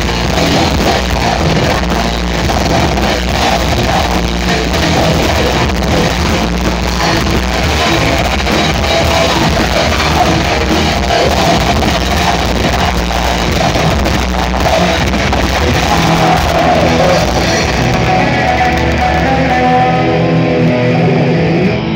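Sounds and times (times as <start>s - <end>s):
fast dense drumming: 0.0s - 21.0s
bass guitar: 0.0s - 21.9s
distorted electric guitars: 0.0s - 21.9s.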